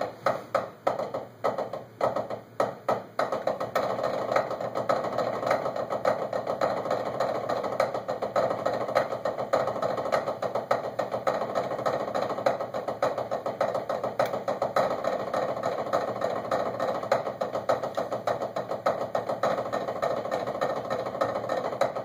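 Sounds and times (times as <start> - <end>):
sticks on drum practice pads: 0.0 - 22.0.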